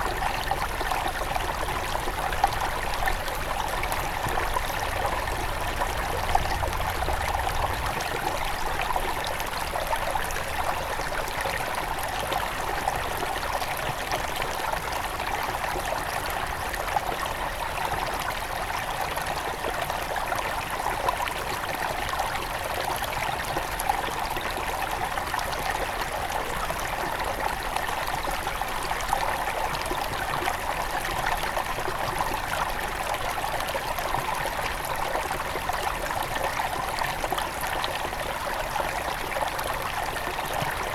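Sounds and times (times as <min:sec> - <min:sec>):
river babbling over stones: 0:00.0 - 0:40.9.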